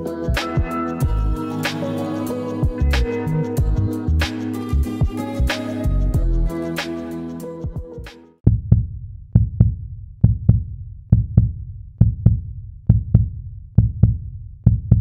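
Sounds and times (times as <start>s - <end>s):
music with double thump beat: 0.0s - 2.0s, 2.6s - 7.0s, 7.6s - 15.0s.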